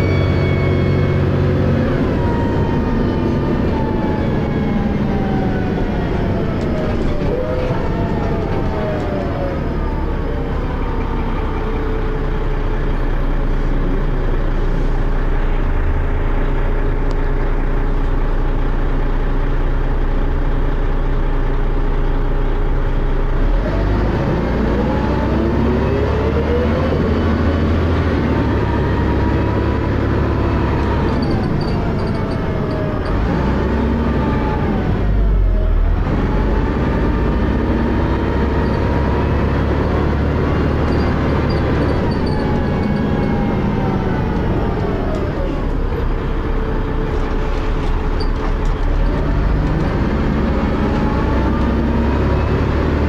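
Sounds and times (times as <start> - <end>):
bus engine revving: 0.0 - 53.0.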